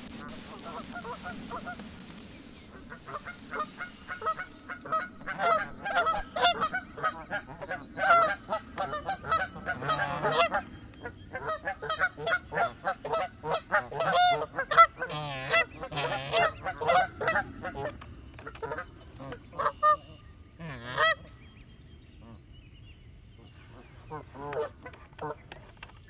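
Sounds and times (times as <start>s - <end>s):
geese honking: 0.0s - 21.4s, 23.4s - 25.5s.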